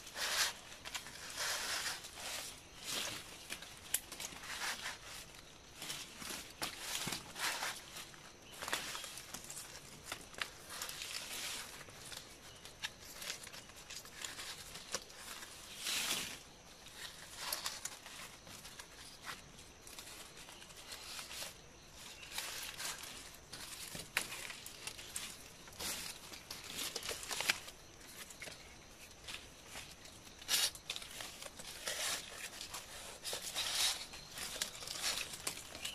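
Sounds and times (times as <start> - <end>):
palm leaves rustling and crinkling: 0.0 - 35.9
small clicks of leaf strips: 0.1 - 35.9.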